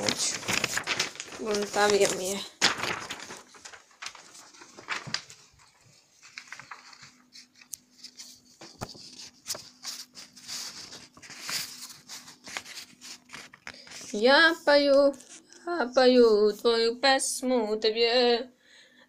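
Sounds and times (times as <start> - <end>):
paper rustling and clicks: 0.0 - 15.6.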